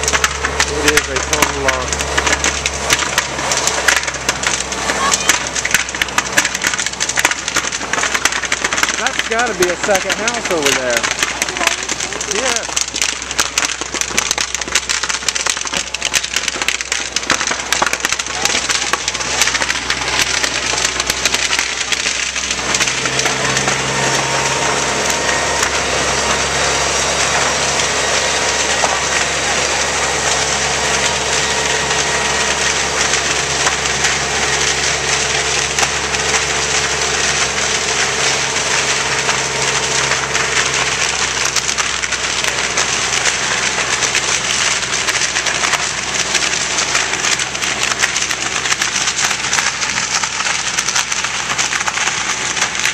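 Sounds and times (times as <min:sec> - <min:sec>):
fire crackling and popping: 0:00.0 - 0:52.9
fire engine humming: 0:00.0 - 0:52.9.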